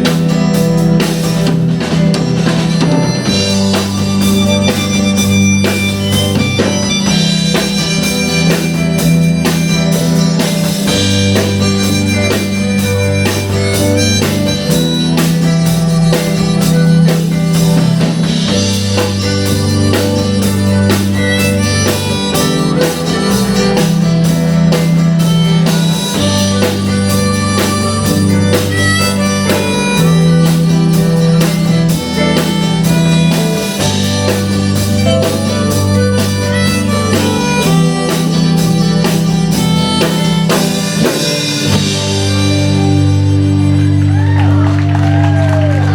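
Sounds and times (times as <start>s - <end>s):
drum beat: 0.0s - 43.1s
bass line: 0.0s - 45.9s
rock band playing: 0.0s - 45.9s.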